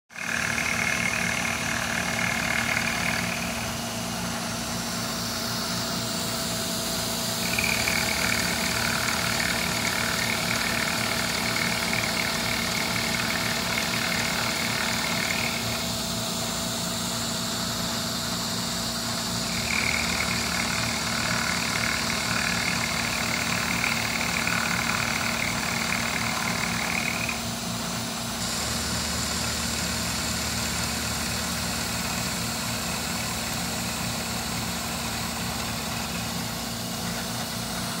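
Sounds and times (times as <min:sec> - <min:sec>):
milling machine cutting metal: 0:00.1 - 0:38.0
milling machine hum: 0:00.1 - 0:38.0.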